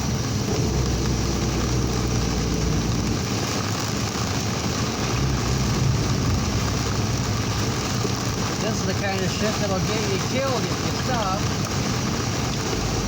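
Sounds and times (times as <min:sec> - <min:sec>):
rain and road spray hiss: 0:00.0 - 0:13.0
vehicle engine droning: 0:00.0 - 0:13.0.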